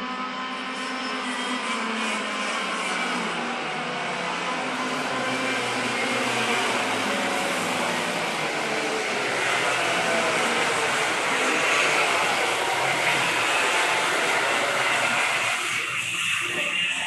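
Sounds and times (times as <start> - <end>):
kart engines revving: 0.0 - 17.0.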